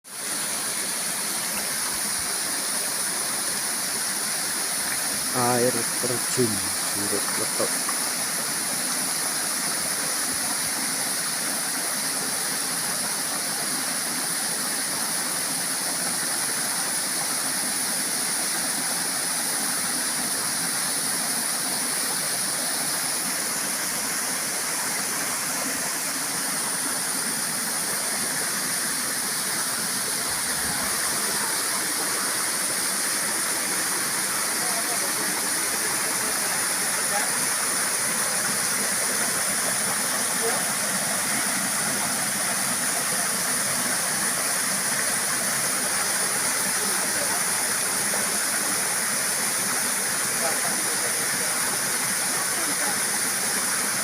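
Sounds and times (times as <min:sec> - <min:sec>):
waterfall rushing: 0:00.1 - 0:54.0.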